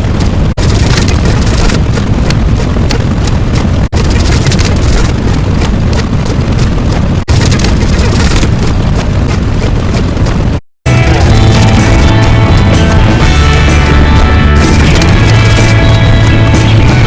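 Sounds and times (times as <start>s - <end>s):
loud low rumbling noise: 0.0s - 17.0s.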